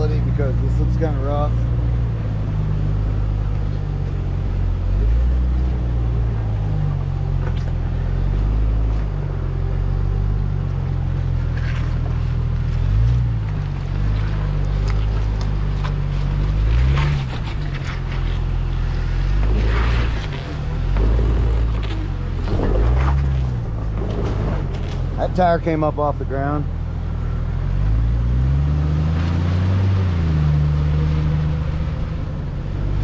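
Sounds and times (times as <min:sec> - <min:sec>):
engine running at low speed: 0:00.0 - 0:33.0.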